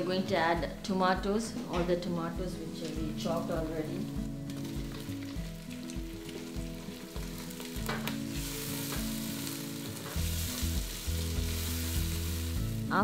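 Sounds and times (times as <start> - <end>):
soft background music: 0.0 - 13.0
tomatoes sizzling in hot oil: 2.6 - 13.0.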